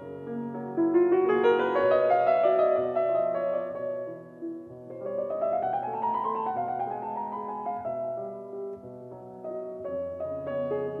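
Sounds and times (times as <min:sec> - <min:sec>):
solo piano music: 0:00.0 - 0:11.0.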